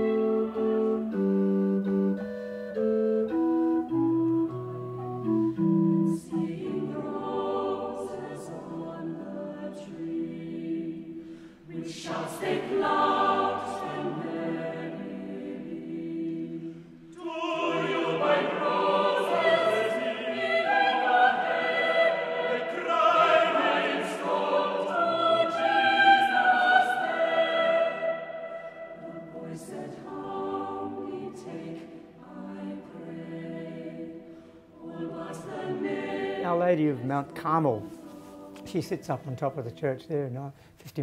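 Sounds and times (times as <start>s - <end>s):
choir singing: 0.0s - 40.4s.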